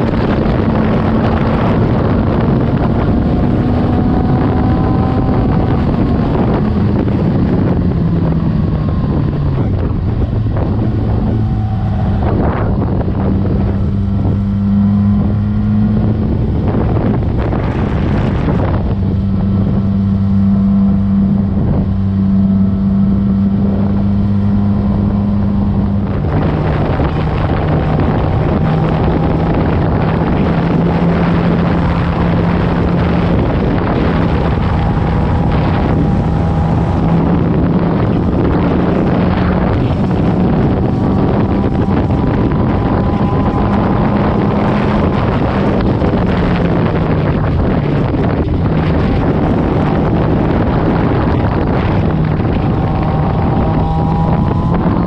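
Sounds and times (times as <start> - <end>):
motorcycle engine cruising: 0.0 - 55.0
wind rushing past microphone: 0.0 - 55.0.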